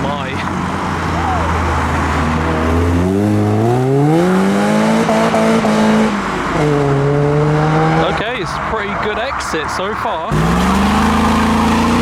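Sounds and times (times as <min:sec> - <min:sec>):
car engine revving hard: 0:00.0 - 0:08.4, 0:10.3 - 0:12.0.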